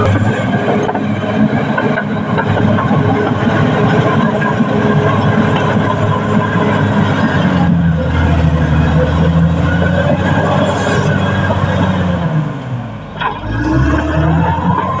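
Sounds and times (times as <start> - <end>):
steel tracks clattering: 0.0 - 12.1
diesel engine under load: 0.0 - 15.0.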